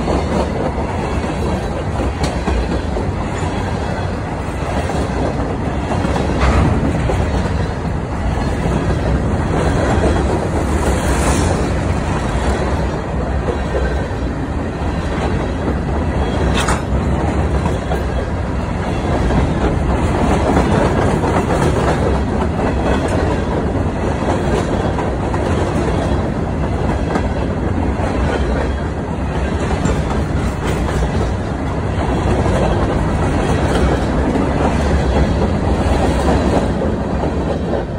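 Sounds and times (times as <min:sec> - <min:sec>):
freight train wheels on rails: 0:00.0 - 0:37.9.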